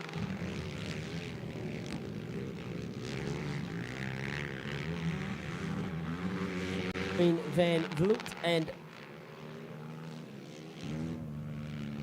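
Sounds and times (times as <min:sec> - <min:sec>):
quad engines revving: 0:00.0 - 0:12.0.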